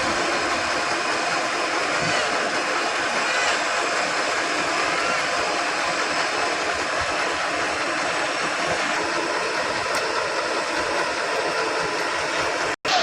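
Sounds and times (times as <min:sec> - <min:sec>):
heavy vehicle engine running: 0:00.0 - 0:13.0.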